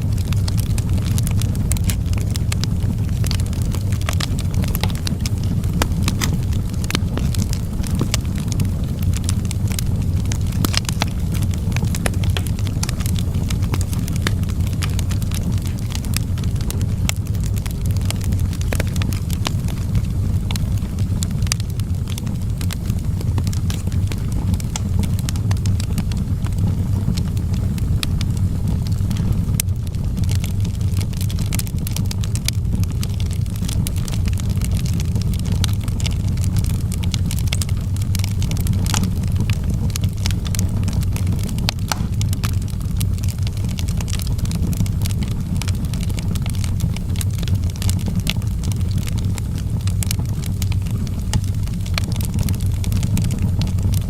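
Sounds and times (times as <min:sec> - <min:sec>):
fire crackling and popping: 0:00.0 - 0:54.0
low rumble of flame: 0:00.0 - 0:54.0.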